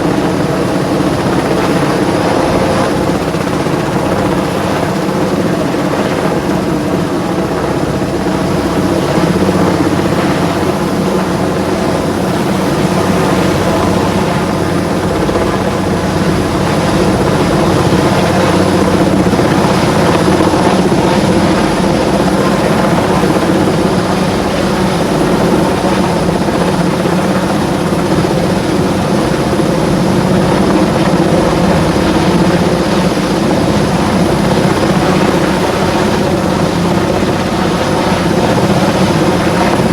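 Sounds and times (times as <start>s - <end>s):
helicopter flying close: 0.0s - 39.9s.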